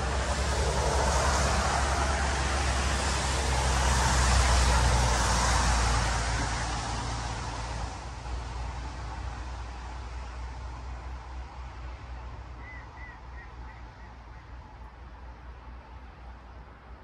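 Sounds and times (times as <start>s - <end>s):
vehicle passing by: 0.0s - 14.8s.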